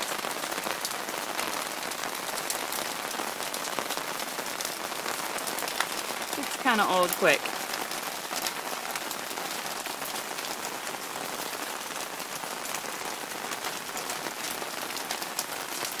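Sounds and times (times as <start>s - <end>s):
rain on hard surfaces: 0.0s - 16.0s.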